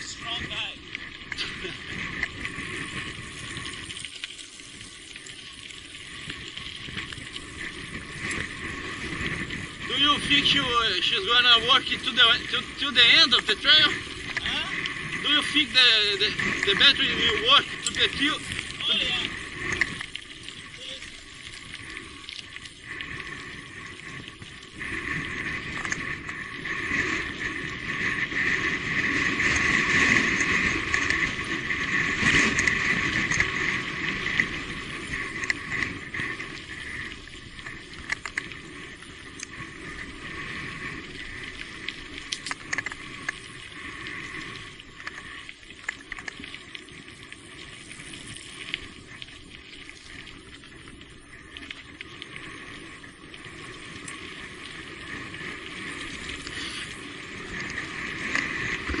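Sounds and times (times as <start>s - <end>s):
bike riding on wet trail rushing: 0.0s - 59.0s.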